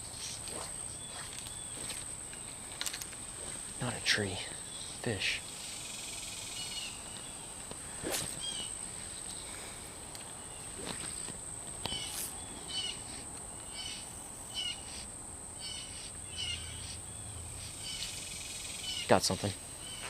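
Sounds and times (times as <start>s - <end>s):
insect trilling: 0.0s - 9.6s, 10.4s - 19.2s
bird calling: 0.0s - 20.0s.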